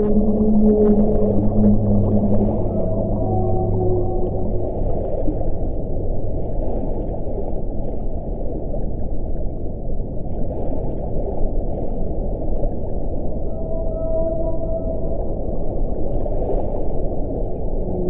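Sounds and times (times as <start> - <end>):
muffled underwater low rumble: 0.0 - 18.0.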